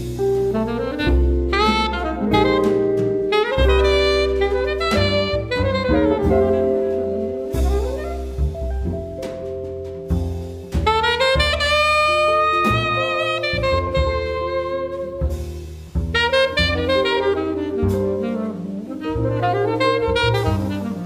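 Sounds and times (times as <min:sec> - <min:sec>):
double bass: 0:00.0 - 0:21.0
alto saxophone soloing: 0:00.2 - 0:08.8, 0:10.7 - 0:21.0.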